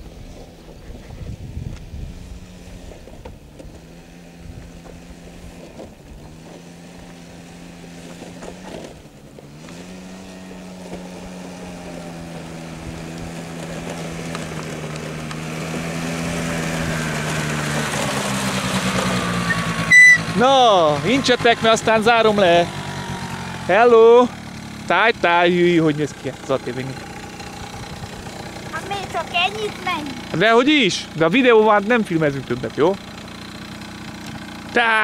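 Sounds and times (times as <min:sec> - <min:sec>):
quad bike engine running: 0:00.0 - 0:35.0.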